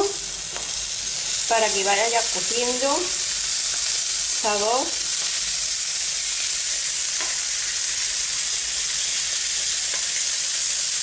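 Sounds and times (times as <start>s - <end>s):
prawns sizzling in oil: 0.0s - 11.0s.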